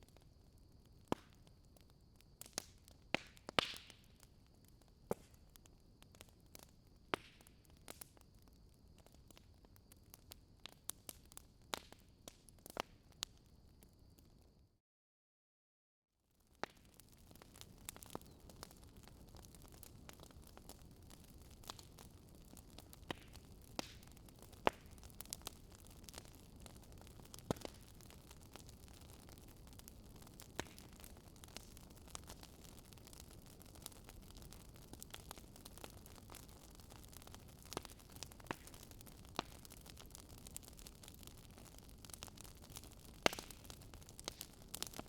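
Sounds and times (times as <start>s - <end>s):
campfire crackling: 0.0s - 14.5s, 16.4s - 45.0s
fire popping: 0.0s - 14.5s, 16.4s - 45.0s.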